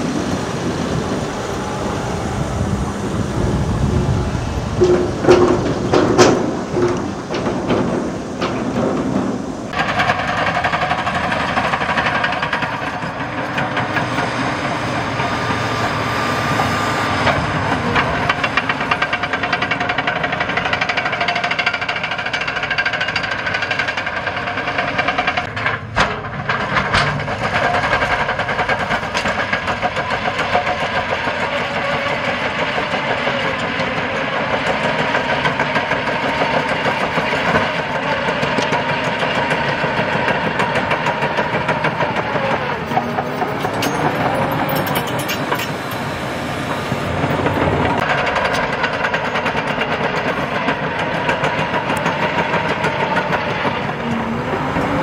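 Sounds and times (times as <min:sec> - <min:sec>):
diesel engine throbbing: 0:00.0 - 0:55.0
sharp knocks: 0:04.8 - 0:54.2.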